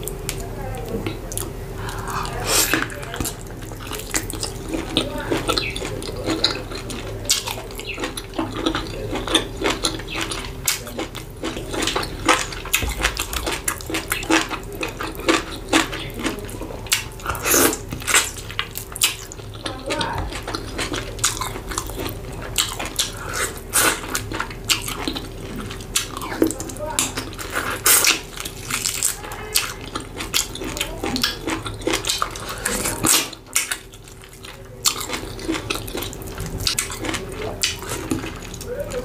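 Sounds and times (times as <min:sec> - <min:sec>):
wet chewing and lip smacking: 0:00.0 - 0:39.0.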